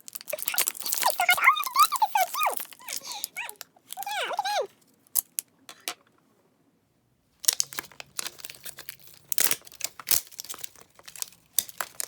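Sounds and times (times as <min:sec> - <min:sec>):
packaging crinkling and tearing: 0:00.0 - 0:05.4, 0:07.4 - 0:12.0.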